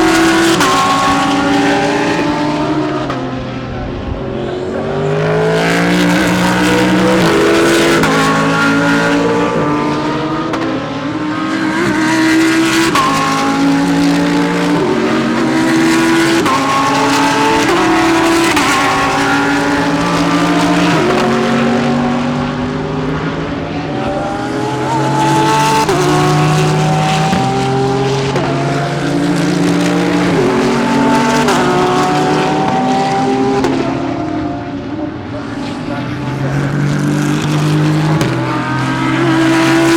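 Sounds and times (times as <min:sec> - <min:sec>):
race cars accelerating: 0:00.0 - 0:39.9.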